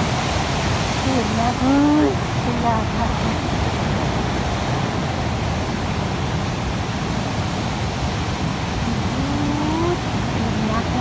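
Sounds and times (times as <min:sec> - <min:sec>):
sea waves breaking: 0:00.0 - 0:11.0.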